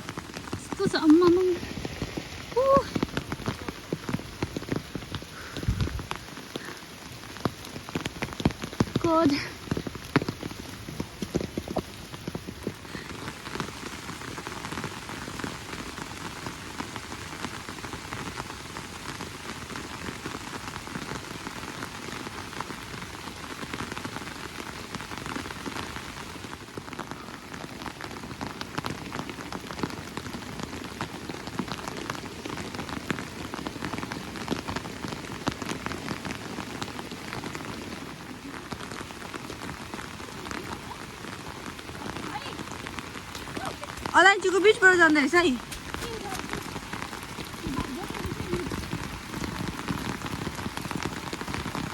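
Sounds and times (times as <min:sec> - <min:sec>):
raindrops ticking: 0:00.0 - 0:51.9
steady rain falling: 0:00.0 - 0:51.9.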